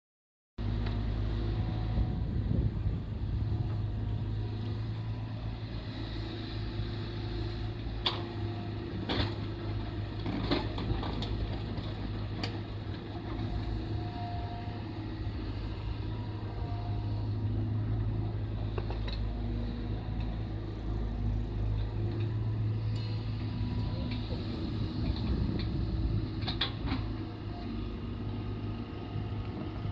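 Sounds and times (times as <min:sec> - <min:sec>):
excavator diesel engine running: 0:00.6 - 0:29.9.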